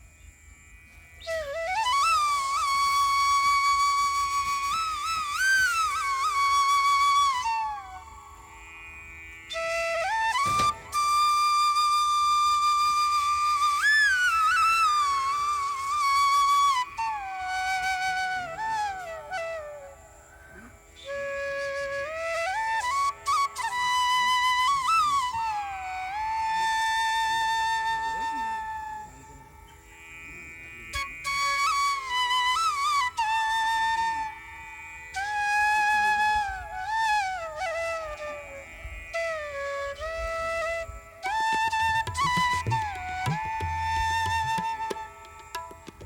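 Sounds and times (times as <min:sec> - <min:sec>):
solo flute melody: 0:01.2 - 0:29.9, 0:30.9 - 0:46.0.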